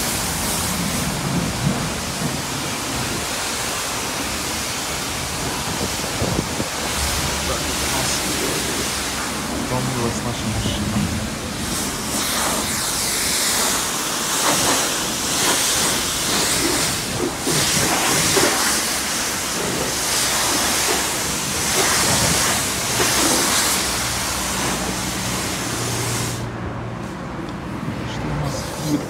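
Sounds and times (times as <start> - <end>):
high-pressure water spray hissing: 0.0 - 26.5.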